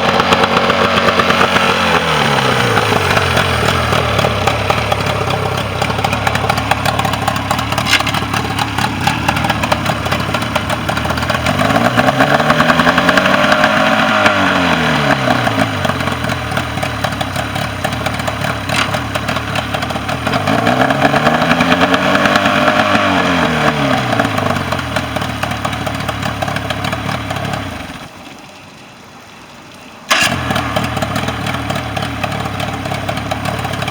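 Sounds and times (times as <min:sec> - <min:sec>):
outboard motor idling and revving: 0:00.0 - 0:28.2, 0:30.1 - 0:33.9.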